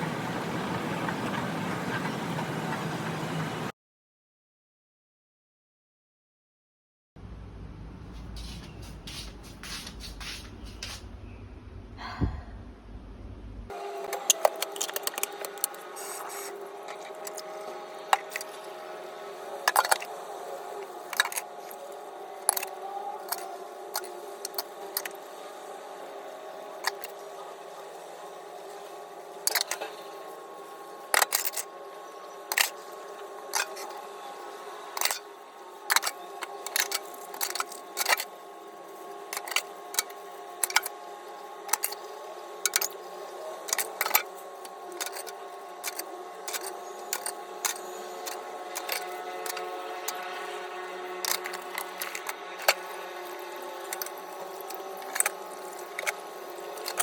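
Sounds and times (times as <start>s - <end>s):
mechanical hum: 0.0s - 3.7s, 7.2s - 57.0s.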